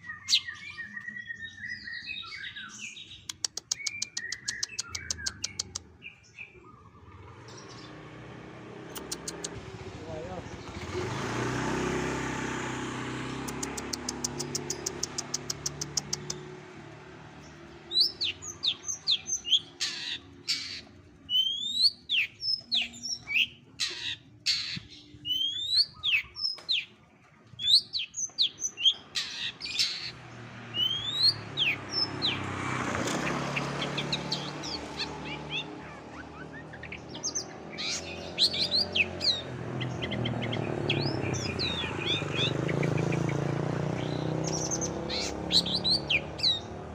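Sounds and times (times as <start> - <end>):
bird singing mimicry calls: 0.0 - 46.9.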